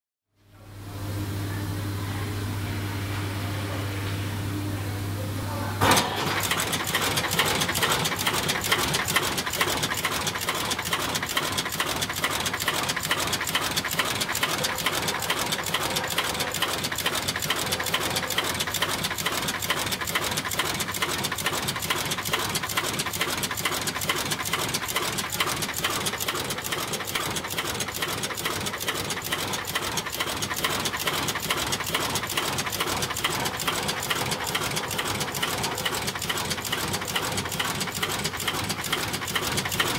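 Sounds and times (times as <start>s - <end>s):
assembly machine clattering: 5.8s - 39.9s.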